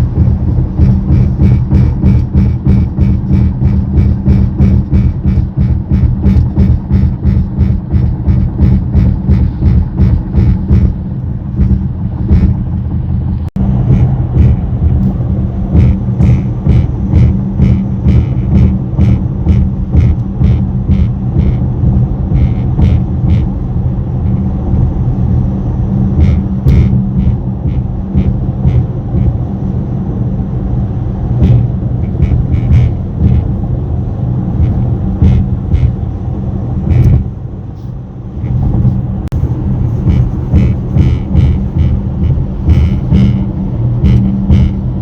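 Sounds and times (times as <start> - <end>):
rattling clicks from dashboard: 0.0 - 25.0, 25.9 - 29.5, 31.3 - 45.0
low road drone: 0.0 - 45.0.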